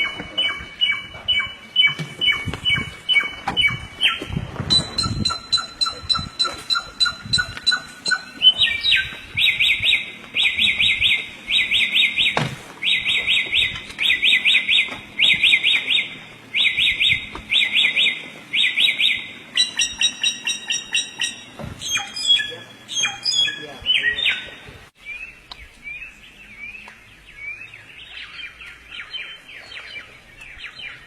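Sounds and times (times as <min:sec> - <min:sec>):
high bird chirps: 0:00.0 - 0:31.0
songbird whistling: 0:00.0 - 0:31.0.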